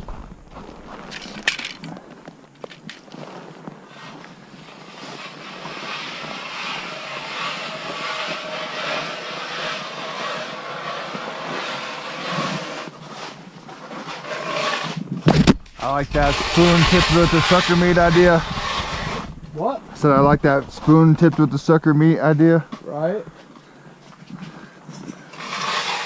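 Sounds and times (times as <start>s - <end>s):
footsteps crunching on snow: 0.0s - 25.6s.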